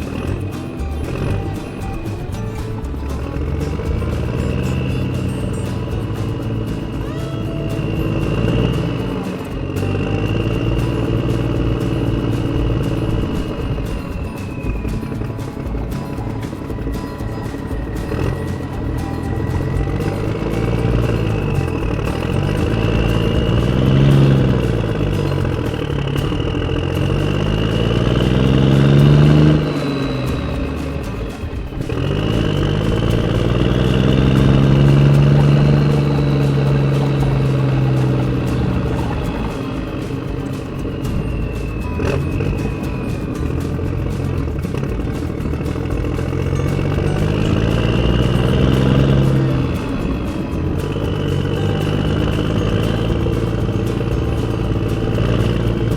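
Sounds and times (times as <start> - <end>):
steady high whine: 0.0 - 55.9
toy excavator motor: 0.0 - 55.9.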